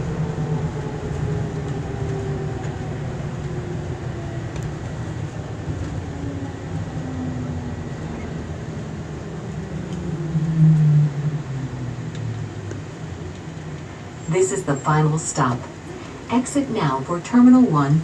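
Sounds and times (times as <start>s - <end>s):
tram rumble with motor hum: 0.0s - 18.0s.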